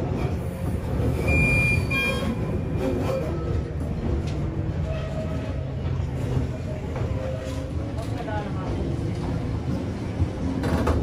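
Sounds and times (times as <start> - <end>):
train motors and wheels rumbling: 0.0 - 11.0.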